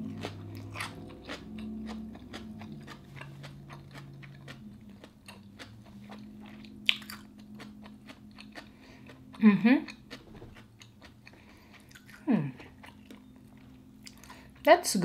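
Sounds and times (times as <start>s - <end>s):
crunchy chewing: 0.0s - 14.6s.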